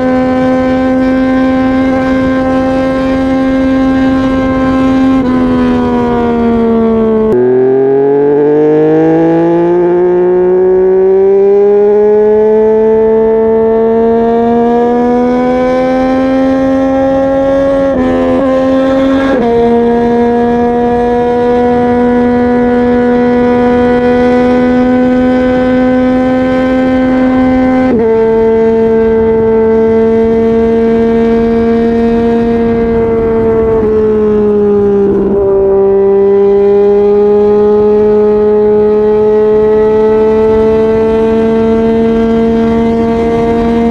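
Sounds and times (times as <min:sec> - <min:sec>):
motorcycle engine and exhaust: 0:00.0 - 0:43.9.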